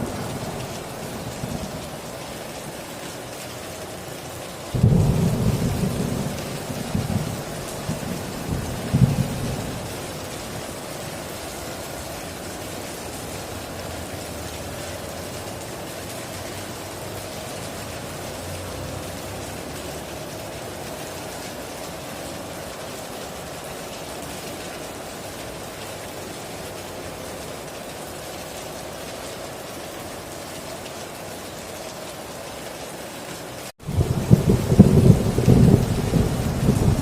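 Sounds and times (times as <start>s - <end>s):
heavy rain on a tin roof: 0.0s - 37.0s.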